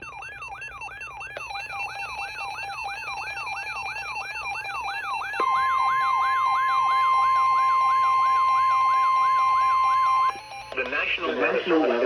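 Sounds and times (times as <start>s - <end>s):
rising siren-like alert tone: 0.0s - 10.8s
steady warning alarm tone: 0.0s - 10.8s.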